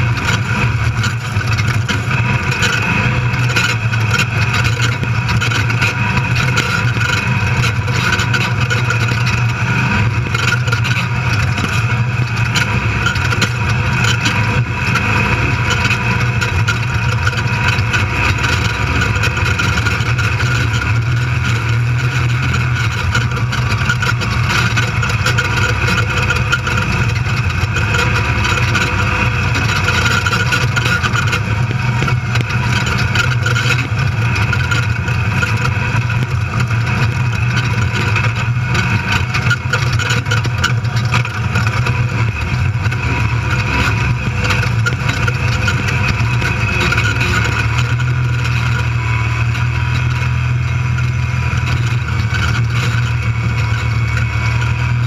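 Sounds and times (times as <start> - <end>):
chassis knocks and rattles: 0.0 - 55.0
race car engine running hard: 0.0 - 55.0.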